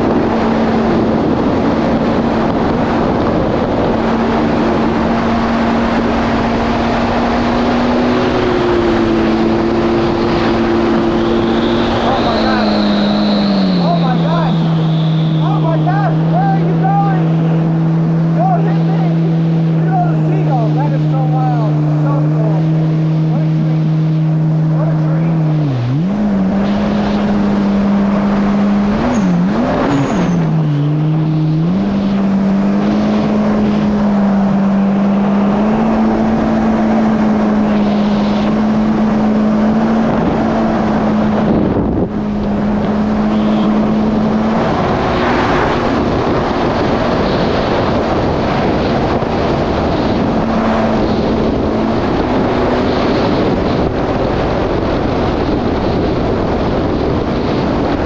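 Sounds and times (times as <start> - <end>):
jet ski engine running: 0.0 - 58.0
rush of water and wind: 0.0 - 58.0.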